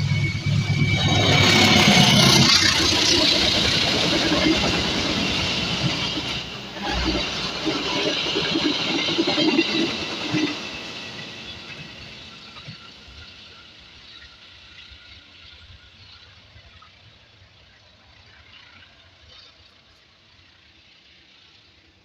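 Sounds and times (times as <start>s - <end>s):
train running on rails: 0.0s - 22.0s.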